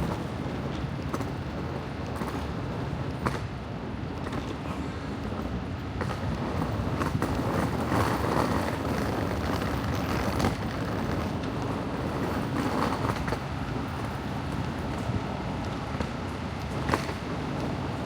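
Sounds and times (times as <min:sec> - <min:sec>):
rumbling hissing outdoor noise: 0:00.0 - 0:18.0.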